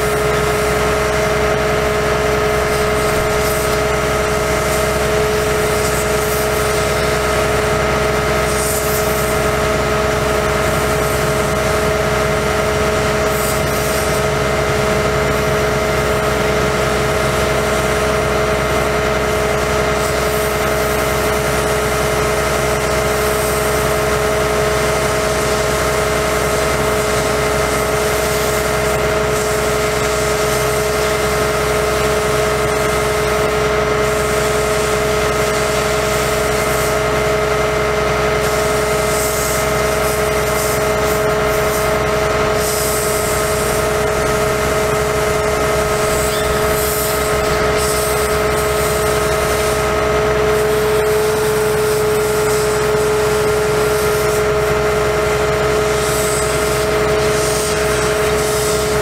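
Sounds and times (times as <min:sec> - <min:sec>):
constant whine: 0:00.0 - 0:59.0
diesel engine running: 0:00.0 - 0:59.0.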